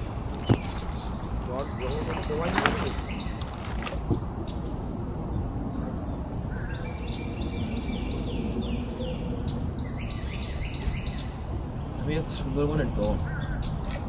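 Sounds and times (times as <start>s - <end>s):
insects shrilling: 0.0s - 14.0s.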